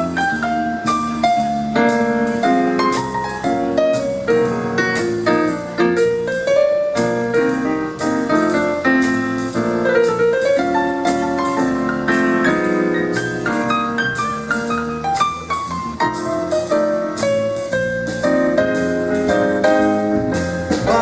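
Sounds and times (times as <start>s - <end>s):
drums and bass beat: 0.0s - 21.0s
piano playing jazz: 0.0s - 21.0s.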